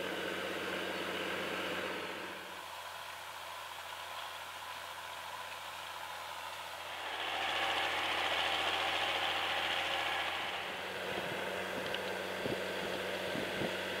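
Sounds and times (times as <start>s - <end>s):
tractor diesel engine: 0.0s - 14.0s.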